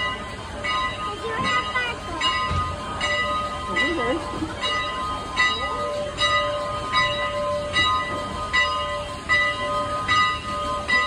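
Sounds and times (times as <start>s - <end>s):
locomotive bell ringing: 0.0s - 11.0s
low locomotive rumble: 0.0s - 11.0s.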